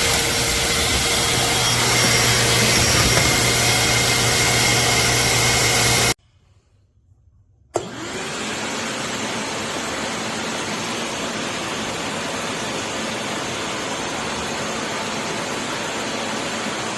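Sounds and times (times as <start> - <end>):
shop vacuum motor whine: 0.0 - 6.2, 7.8 - 16.9.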